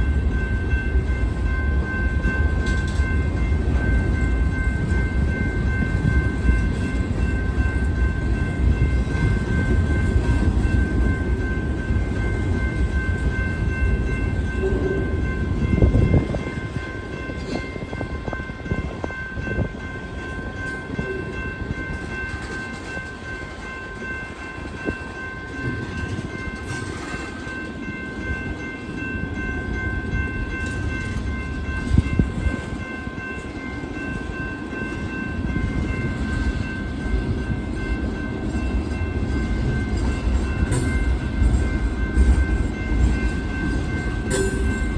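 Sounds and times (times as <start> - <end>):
train cars rumbling: 0.0 - 44.9.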